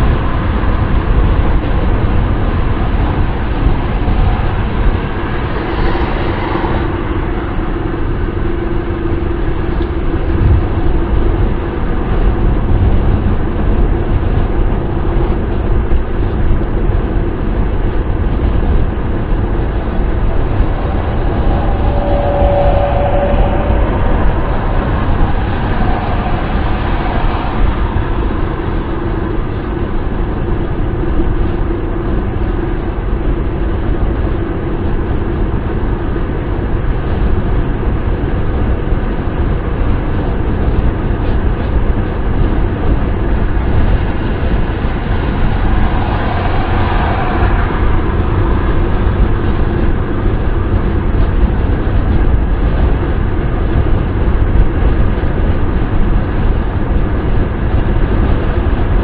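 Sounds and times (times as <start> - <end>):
car wind and road noise: 0.0 - 59.0.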